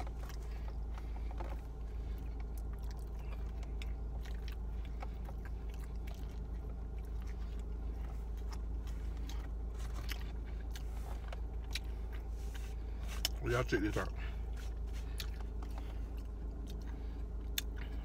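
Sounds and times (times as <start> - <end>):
chewing and biting food: 0.0 - 18.0
steady low hum: 0.0 - 18.0.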